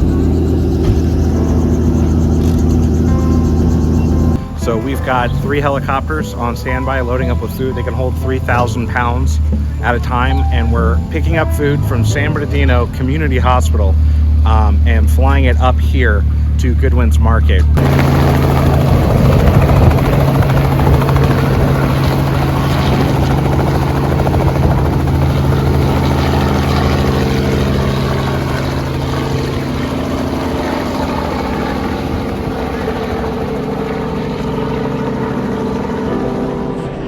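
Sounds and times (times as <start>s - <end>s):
helicopter rotor chop: 0.0s - 36.8s
helicopter engine hum: 0.0s - 37.0s.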